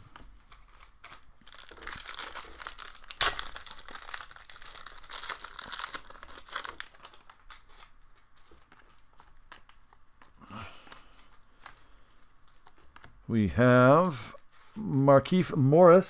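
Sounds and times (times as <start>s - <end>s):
foil wrapper crinkling: 0.1s - 13.2s.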